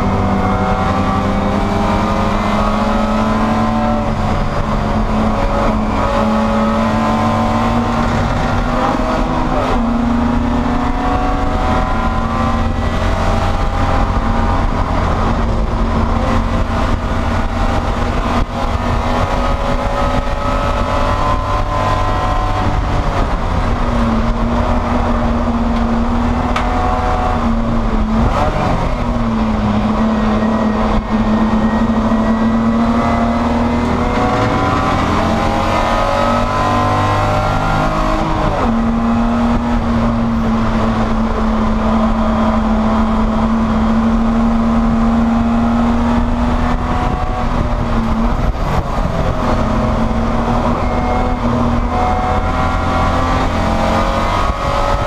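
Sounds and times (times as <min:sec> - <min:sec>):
race car engine running hard: 0:00.0 - 0:55.0.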